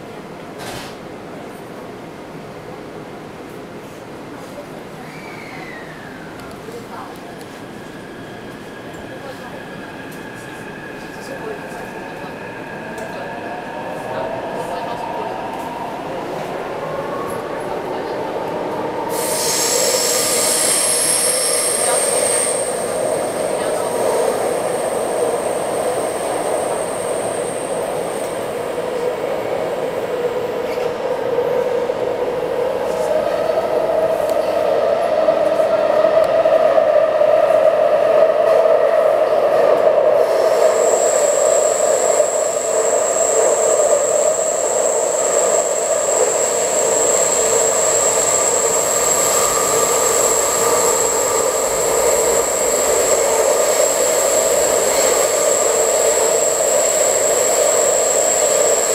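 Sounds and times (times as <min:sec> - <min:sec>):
train wheels rumbling on rail: 0:03.2 - 0:58.9.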